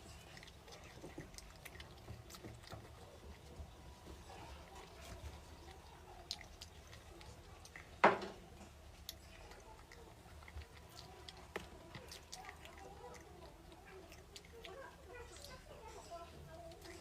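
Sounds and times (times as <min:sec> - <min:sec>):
soft wet chewing: 0:00.0 - 0:17.0.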